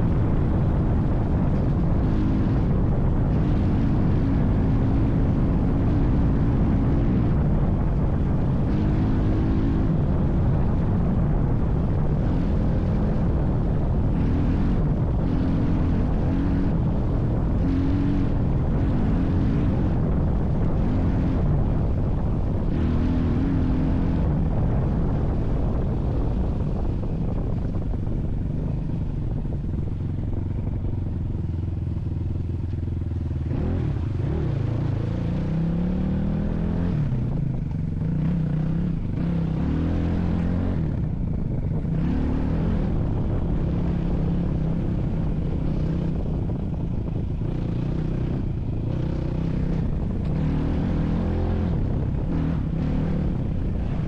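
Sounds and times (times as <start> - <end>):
vehicle engine running under load: 0.0 - 54.0.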